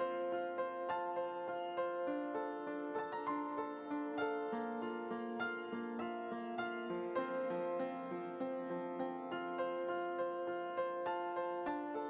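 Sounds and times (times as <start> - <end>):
gentle piano-like melody: 0.0 - 12.0.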